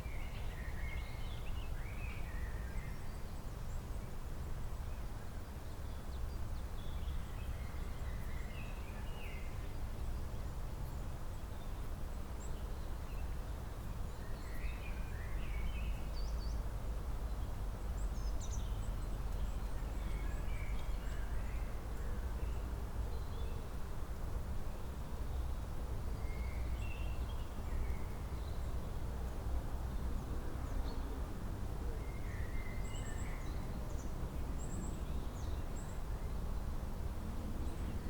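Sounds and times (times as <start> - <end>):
songbirds chirping: 0.0 - 24.0, 24.6 - 38.0.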